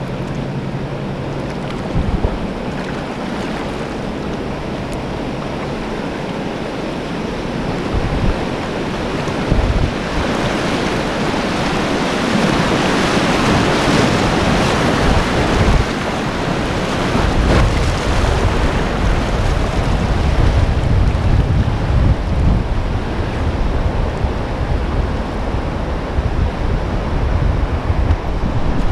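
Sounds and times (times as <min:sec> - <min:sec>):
water and wind buffeting microphone: 0:00.0 - 0:28.9
whitewater rushing: 0:00.0 - 0:28.9.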